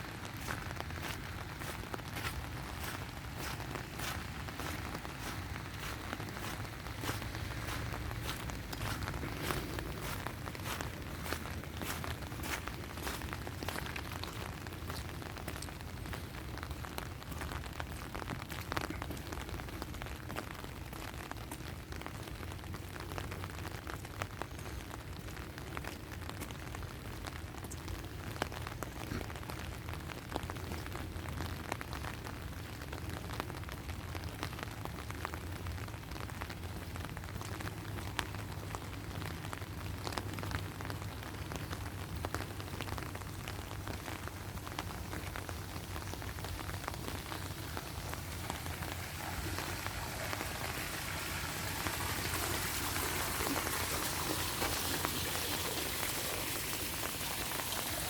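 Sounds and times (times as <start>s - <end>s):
rain falling: 0.0s - 58.0s
raindrops ticking close by: 0.0s - 58.0s.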